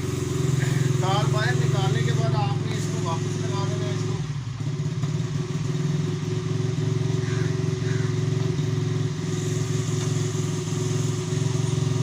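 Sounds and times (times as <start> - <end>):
small motorcycle engine idling: 0.0 - 12.0.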